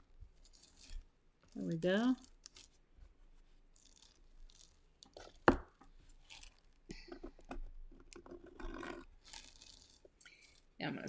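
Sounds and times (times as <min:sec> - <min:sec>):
tool scraping clay: 0:00.0 - 0:11.0.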